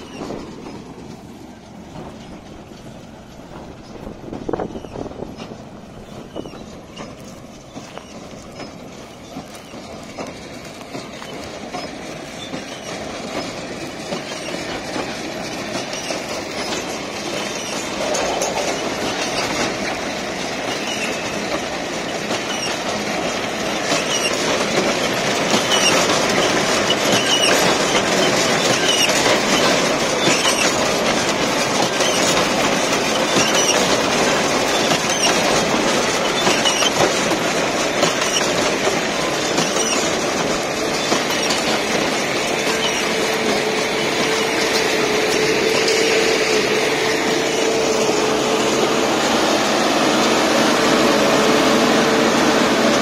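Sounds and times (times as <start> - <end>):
baler clattering metallic rattle: 0.0 - 49.4.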